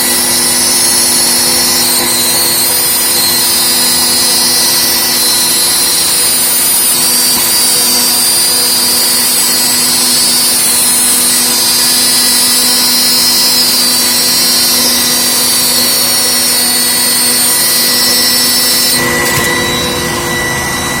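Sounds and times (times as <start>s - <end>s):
cnc machine running with whine: 0.0s - 21.0s.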